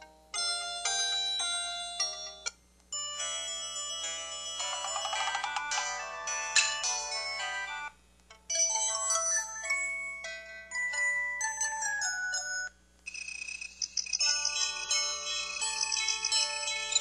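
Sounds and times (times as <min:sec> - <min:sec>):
phone ringtone melodies: 0:00.3 - 0:17.0.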